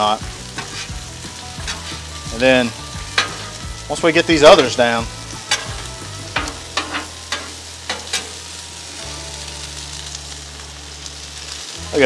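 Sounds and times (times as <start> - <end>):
sweet potato slices sizzling: 0.0 - 12.0.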